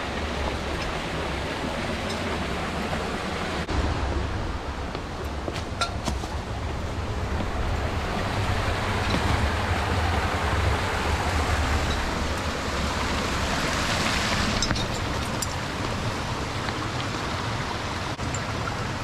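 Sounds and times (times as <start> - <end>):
waterfall and stream rushing: 0.0 - 19.0.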